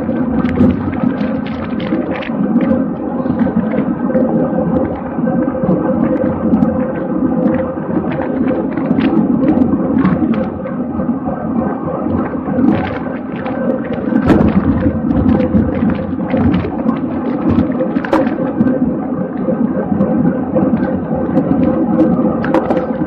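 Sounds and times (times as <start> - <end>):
faint constant hum: 0.0 - 23.0
wind buffeting microphone: 0.0 - 23.0.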